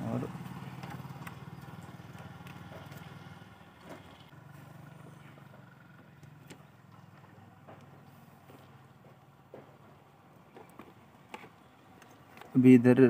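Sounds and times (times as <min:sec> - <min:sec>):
engine running: 0:00.0 - 0:12.6.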